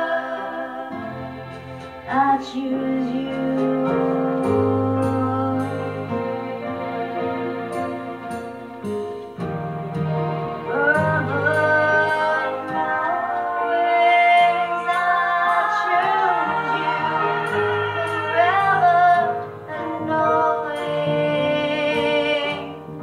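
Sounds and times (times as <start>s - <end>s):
person singing with vibrato: 0.0s - 6.2s, 10.7s - 23.0s
instrumental accompaniment: 0.0s - 23.0s.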